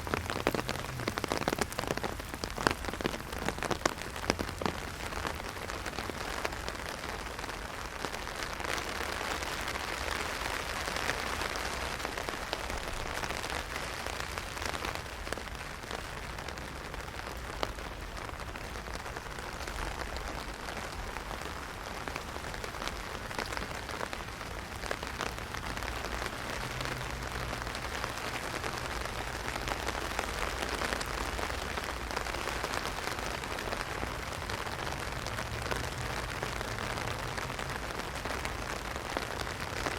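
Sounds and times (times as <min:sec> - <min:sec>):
heavy rain drumming on umbrella: 0:00.0 - 0:39.9.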